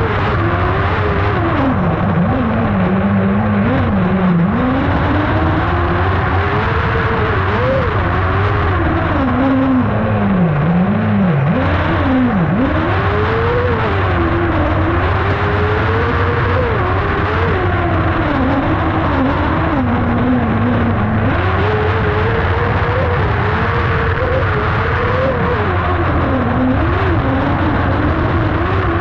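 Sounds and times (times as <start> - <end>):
motorcycle engine revving: 0.0 - 29.0
steady rushing noise: 0.0 - 29.0.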